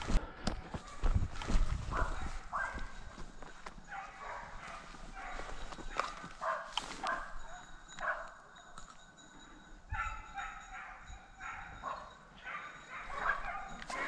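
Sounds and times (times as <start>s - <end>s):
hounds barking and baying: 0.0s - 14.0s.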